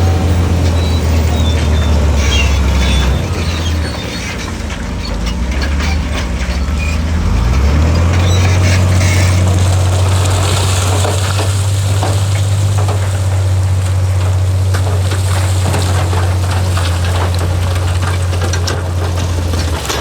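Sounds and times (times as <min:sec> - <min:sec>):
heavy diesel machine engine: 0:00.0 - 0:20.0.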